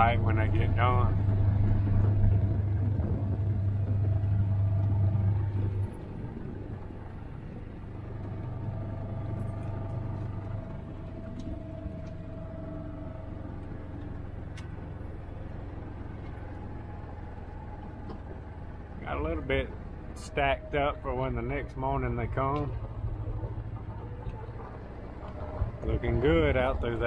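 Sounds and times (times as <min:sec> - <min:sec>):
loud low hum: 0:00.0 - 0:27.0
vehicle engine rumbling: 0:00.0 - 0:27.0.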